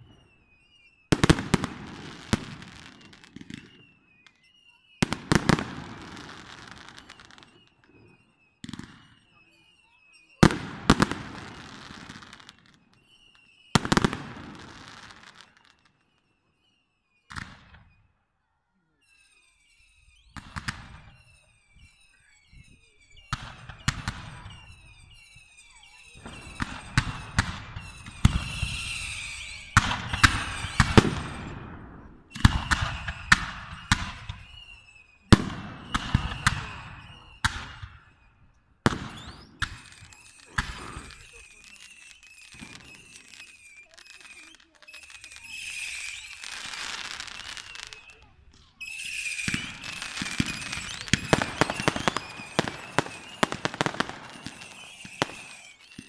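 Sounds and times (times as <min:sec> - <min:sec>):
fireworks launching and bursting: 0:00.0 - 0:18.0, 0:19.1 - 0:56.0
high whistling tones: 0:00.0 - 0:56.0.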